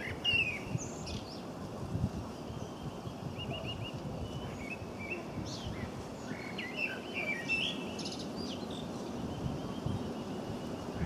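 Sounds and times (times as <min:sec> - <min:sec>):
small birds chirping and calling: 0:00.0 - 0:01.5, 0:02.1 - 0:11.0.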